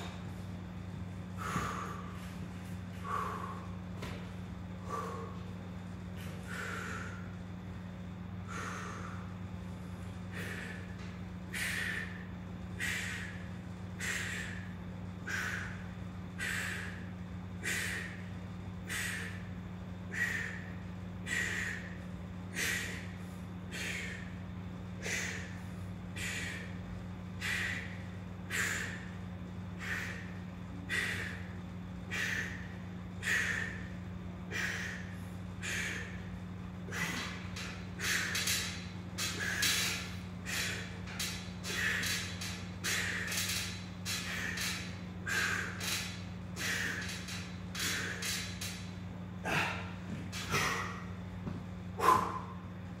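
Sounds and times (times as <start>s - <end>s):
man breathing forcefully: 0.0s - 52.9s
low hum: 0.0s - 53.0s.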